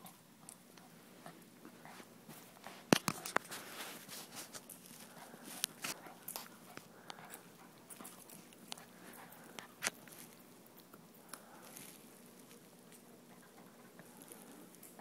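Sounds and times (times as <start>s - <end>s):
dog gnawing a chew: 0.0s - 15.0s.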